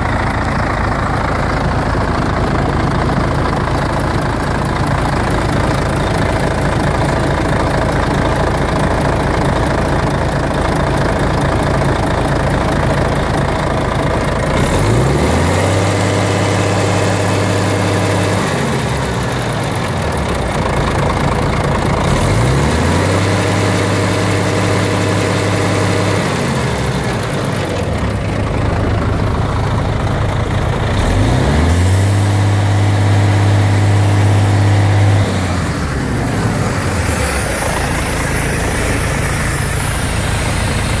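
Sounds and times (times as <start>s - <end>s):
diesel truck engine revving: 0.0s - 41.0s.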